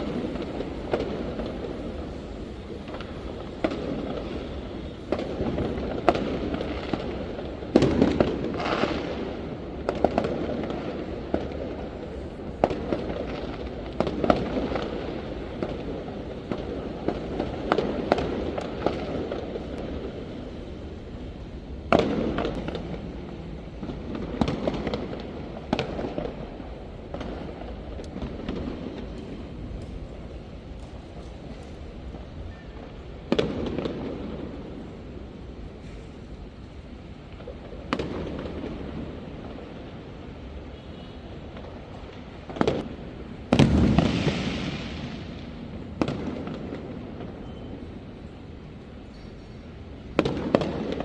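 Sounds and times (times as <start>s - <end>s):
rumble of distant explosions: 0.0s - 40.5s, 41.4s - 49.1s
fireworks bangs and crackles: 0.0s - 51.0s.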